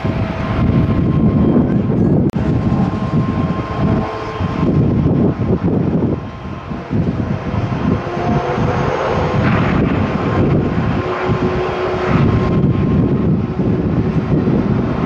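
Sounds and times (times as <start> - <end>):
jet engines roaring: 0.0 - 15.0
wind rumbling on microphone: 0.0 - 15.0.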